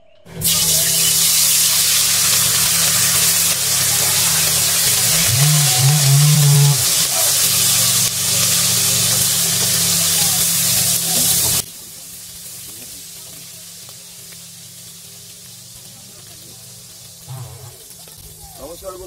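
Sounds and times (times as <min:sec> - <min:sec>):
food sizzling in hot oil: 0:00.3 - 0:19.0.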